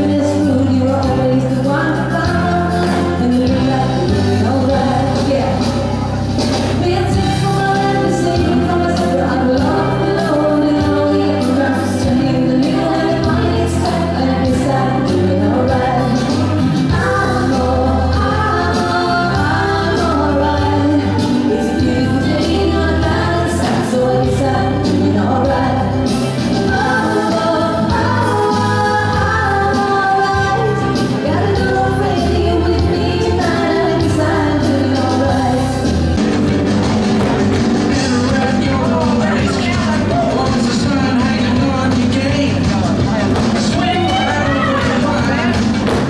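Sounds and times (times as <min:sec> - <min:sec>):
line-dance song with singing: 0:00.0 - 0:46.0.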